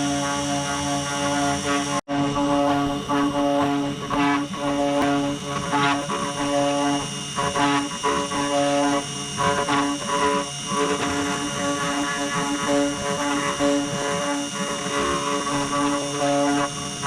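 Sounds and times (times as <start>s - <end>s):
spindle high whine: 0.0s - 17.0s
stepper motors whining: 0.0s - 17.0s.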